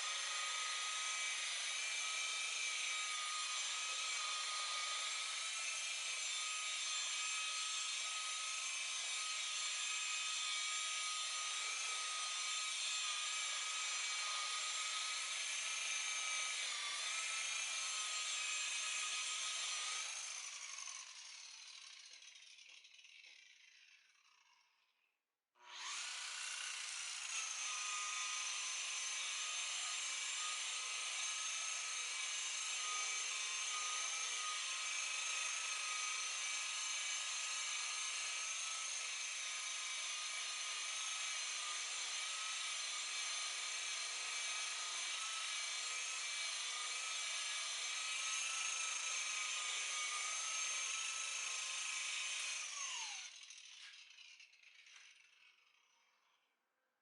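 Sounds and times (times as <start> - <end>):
polisher motor whining: 0.0 - 20.4, 25.7 - 55.1.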